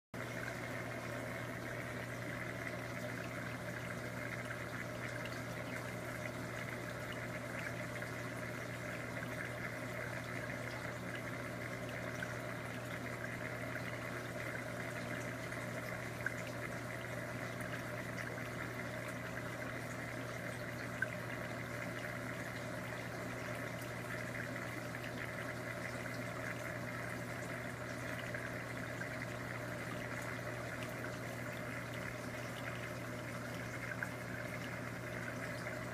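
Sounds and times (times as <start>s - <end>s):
low pump hum: 0.2s - 35.9s
running water trickling: 0.2s - 35.9s.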